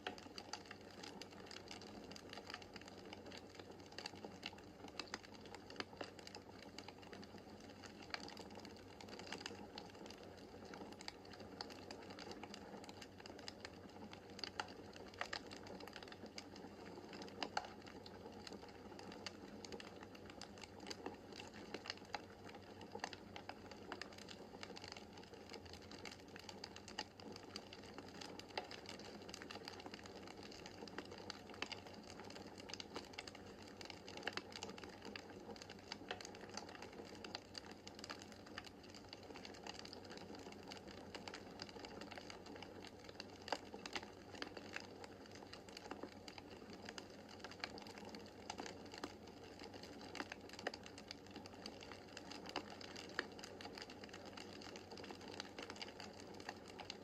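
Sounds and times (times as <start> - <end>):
burning logs popping: 0.1 - 57.0.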